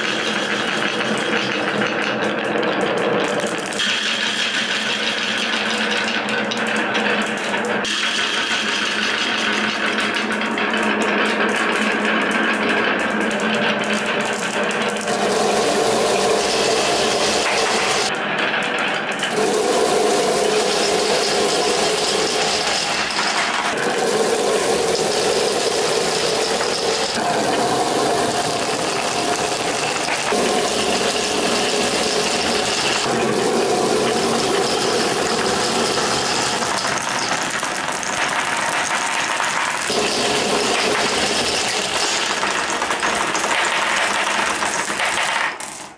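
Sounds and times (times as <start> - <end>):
glass marbles rattling down tracks: 0.0 - 45.9.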